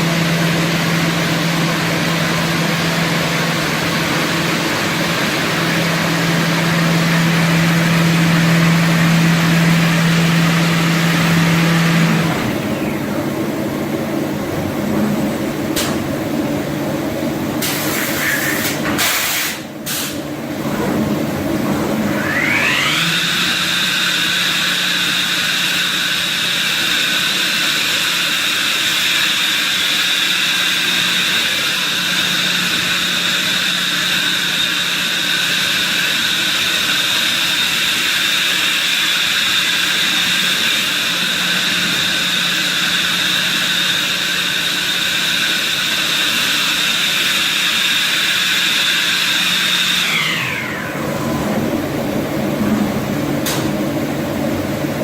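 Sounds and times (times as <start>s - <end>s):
spindle motor high whine: 0.0s - 14.0s, 21.4s - 55.0s.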